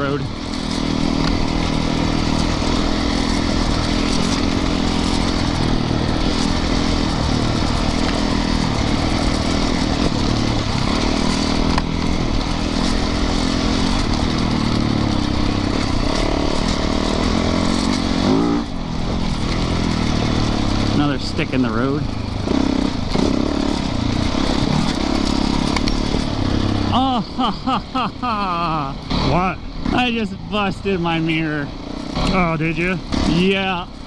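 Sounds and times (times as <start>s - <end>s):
bike rattling over rough ground: 0.0s - 34.0s
motorcycle engine running: 0.0s - 34.0s
wind: 0.0s - 34.0s.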